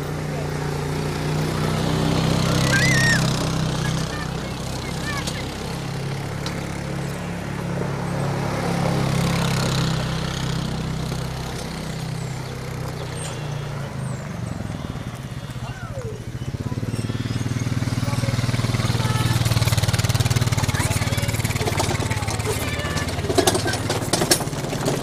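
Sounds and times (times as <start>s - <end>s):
quad bike engine running: 0.0s - 25.0s.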